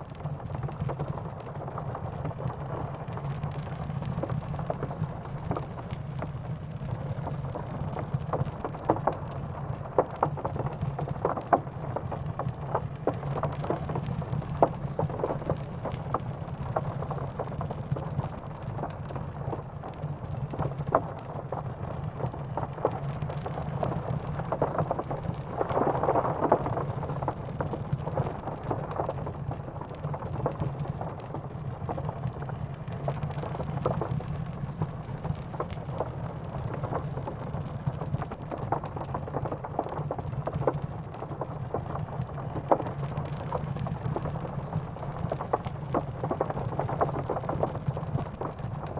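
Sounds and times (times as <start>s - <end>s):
steady rain: 0.0s - 48.9s
wood fire crackling: 0.2s - 48.9s.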